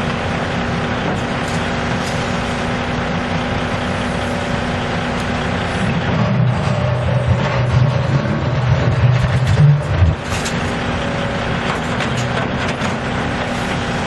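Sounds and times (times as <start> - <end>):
heavy diesel engines running: 0.0 - 14.0.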